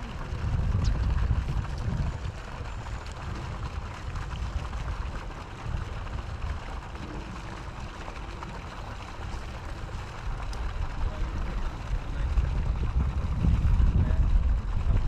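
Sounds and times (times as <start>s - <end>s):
background noise wash: 0.0s - 15.0s
wind buffeting microphone: 0.0s - 15.0s.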